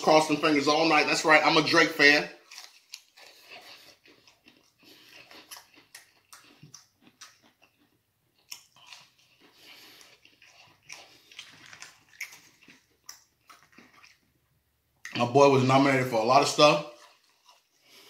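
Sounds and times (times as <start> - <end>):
light crunching of food: 0.2 - 18.0.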